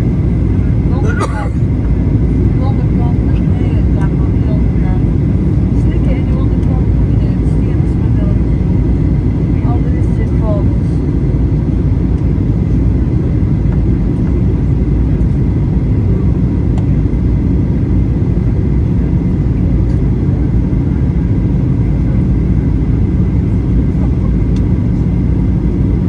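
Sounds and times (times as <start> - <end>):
airplane cabin engine rumble: 0.0 - 26.0.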